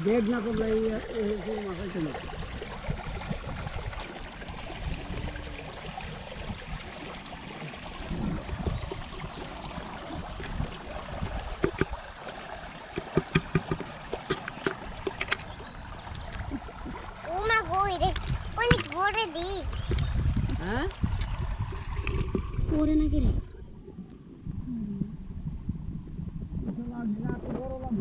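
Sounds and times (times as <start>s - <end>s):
running water: 0.0s - 25.2s.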